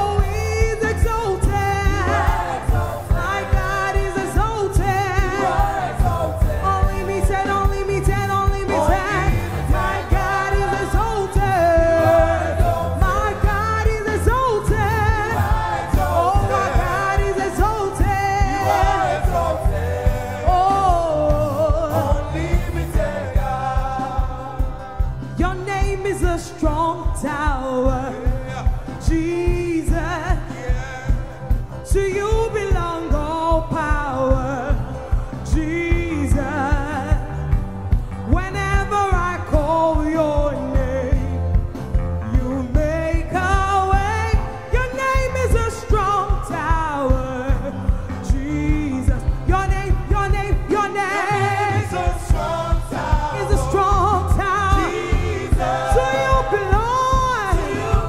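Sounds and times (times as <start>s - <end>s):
steady beat: 0.0s - 42.0s, 42.8s - 58.0s
gospel choir singing: 0.0s - 58.0s.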